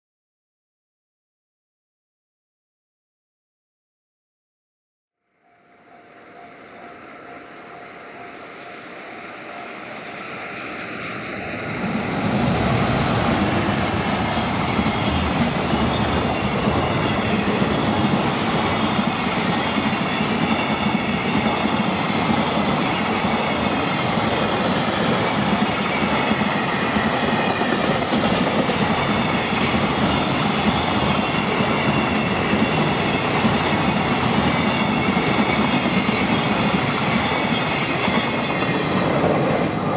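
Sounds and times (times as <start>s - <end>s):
freight train passing: 5.4s - 39.9s.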